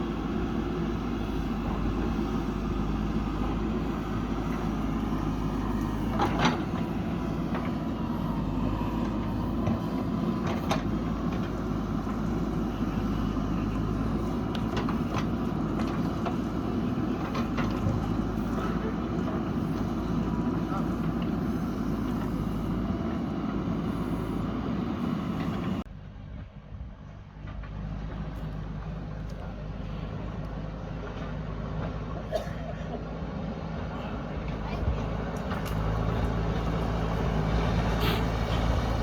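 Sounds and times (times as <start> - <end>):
backhoe engine running: 0.0 - 39.0.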